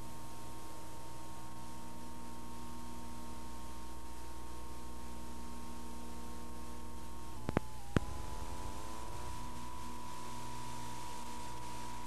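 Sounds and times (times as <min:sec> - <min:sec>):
electrical hum and buzz: 0:00.0 - 0:12.0
faint high steady tone: 0:00.0 - 0:12.0
tape hiss: 0:00.0 - 0:12.0.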